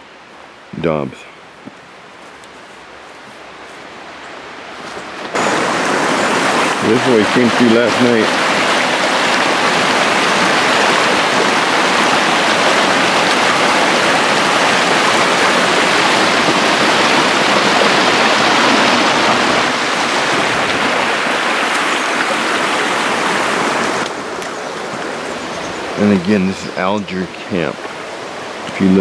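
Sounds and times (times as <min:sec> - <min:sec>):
creek rushing over rocks: 0:02.8 - 0:29.0.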